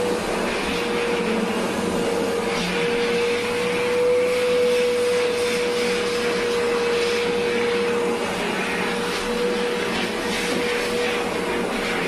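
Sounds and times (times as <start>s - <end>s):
pet hair dryer blowing: 0.0s - 12.0s.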